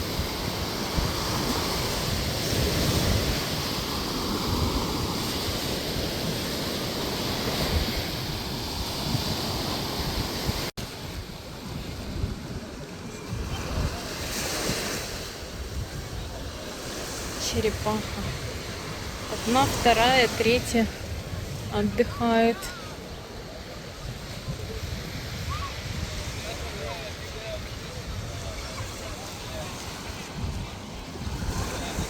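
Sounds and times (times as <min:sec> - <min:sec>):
ocean surf on beach: 0:00.0 - 0:32.0
wind buffeting microphone: 0:00.0 - 0:32.0.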